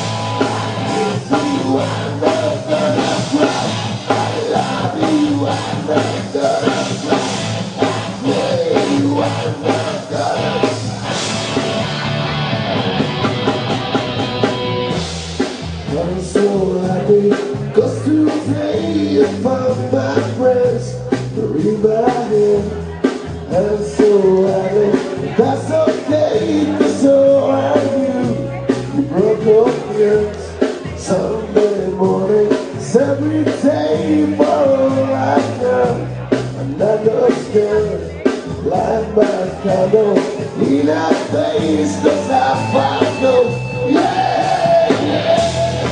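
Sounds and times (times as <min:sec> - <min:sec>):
person singing: 0:00.0 - 0:11.4, 0:15.8 - 0:45.9
drums: 0:00.0 - 0:45.9
live rock band playing: 0:00.0 - 0:45.9.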